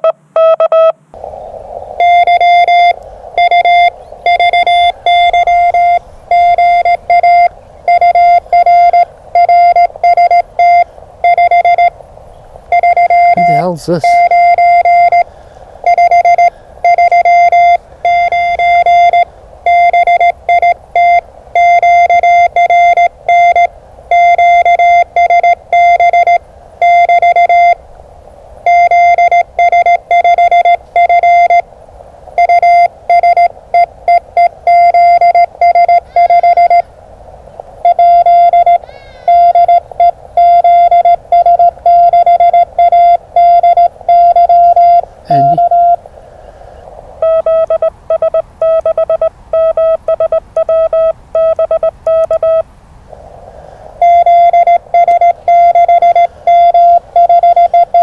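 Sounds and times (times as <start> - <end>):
morse code beeps: 0.0 - 1.0, 2.0 - 12.0, 12.7 - 27.8, 28.6 - 31.6, 32.4 - 36.8, 37.8 - 46.0, 47.2 - 52.6, 54.0 - 58.0.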